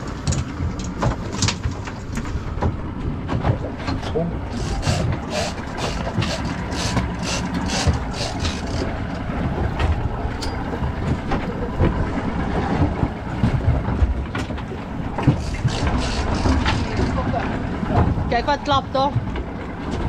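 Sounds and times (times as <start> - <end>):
boat engines running: 0.0 - 20.0
water splashing against hull: 0.0 - 20.0.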